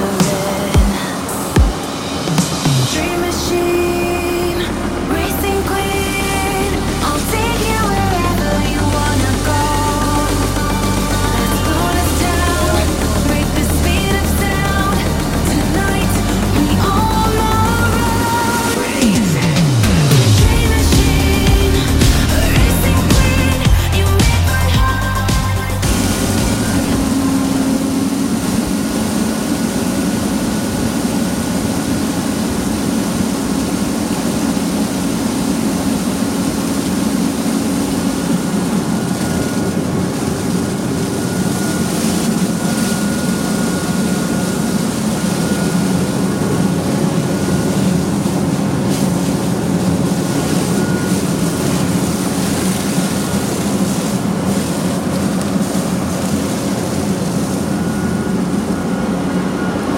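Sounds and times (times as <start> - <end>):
diesel machinery engine drone: 0.0 - 59.9
thin steady whine: 0.0 - 59.9.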